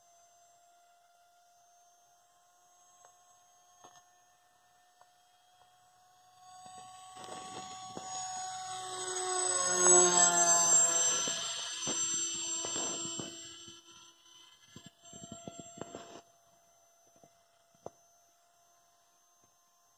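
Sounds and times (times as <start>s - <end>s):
model airplane motor whining: 0.0s - 19.9s.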